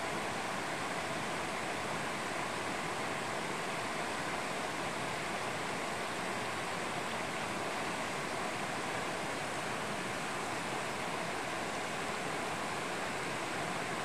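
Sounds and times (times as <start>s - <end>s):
stream flowing over stones: 0.1s - 14.0s.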